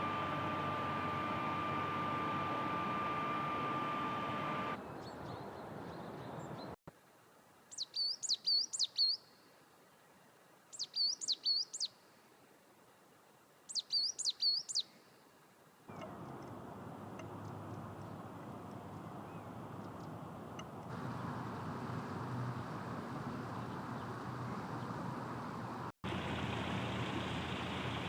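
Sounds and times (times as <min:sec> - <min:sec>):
background noise with faint hum: 0:00.0 - 0:28.0.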